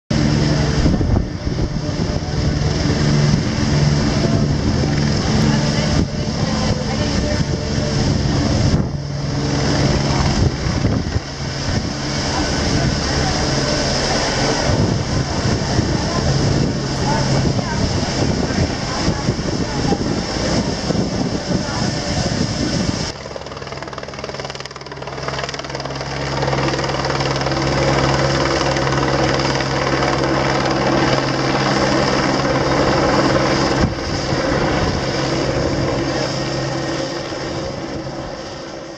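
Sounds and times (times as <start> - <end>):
helicopter rotor and engine: 0.1 - 38.9.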